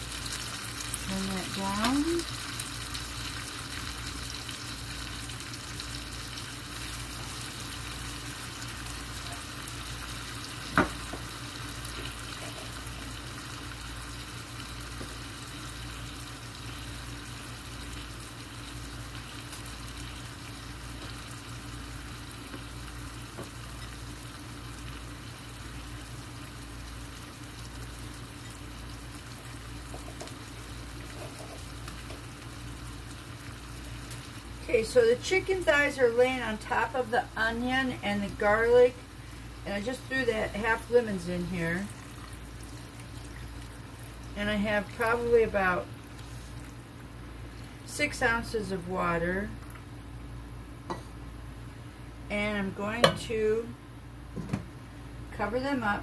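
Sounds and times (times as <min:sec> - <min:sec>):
chicken sizzling in skillet: 0:00.0 - 0:48.2.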